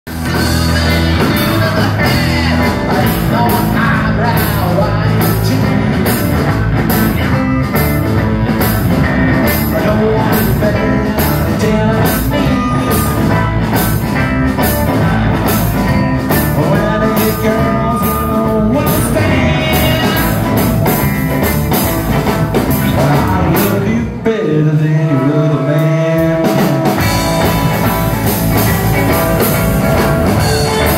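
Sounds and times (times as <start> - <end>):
person singing: 0.1 - 7.4, 9.4 - 21.0, 22.6 - 27.9, 29.1 - 30.9
plucked double bass: 0.1 - 23.8, 27.0 - 30.9
driving drum beat: 0.1 - 23.9, 26.2 - 30.9
rockabilly band playing: 0.1 - 30.9.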